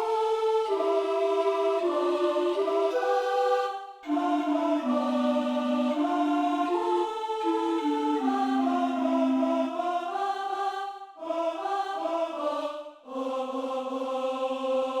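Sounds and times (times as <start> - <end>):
wordless choir singing: 0.0 - 15.0.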